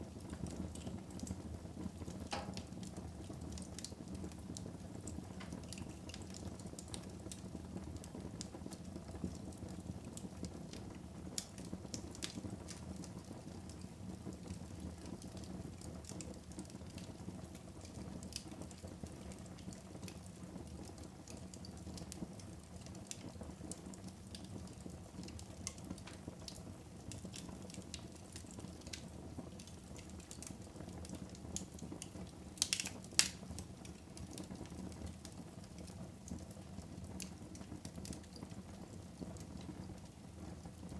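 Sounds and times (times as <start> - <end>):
crackles and pops of fire: 0.0 - 40.9
wood fire burning: 0.0 - 40.9.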